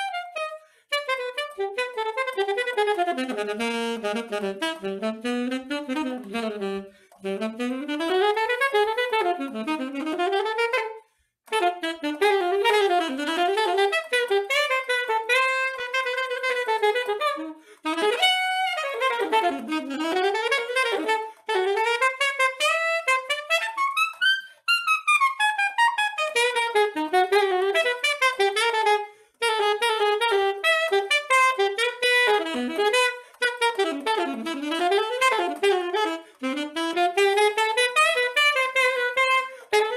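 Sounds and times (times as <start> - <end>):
solo saxophone: 0.0 - 39.9.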